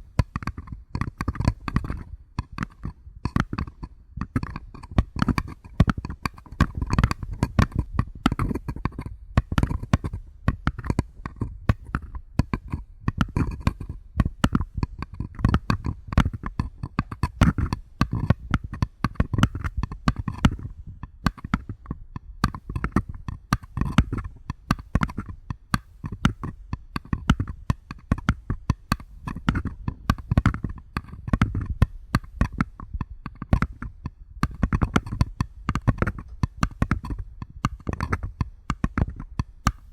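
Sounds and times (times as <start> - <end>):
fingertips tapping on paper cups: 0.0 - 39.9.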